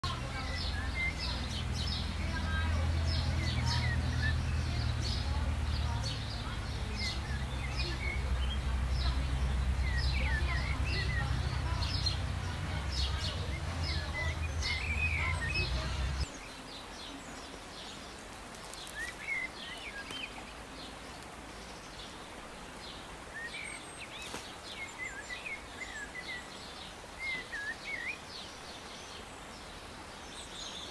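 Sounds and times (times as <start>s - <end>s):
small birds chirping: 0.0s - 30.9s
steady outdoor hiss: 0.0s - 30.9s.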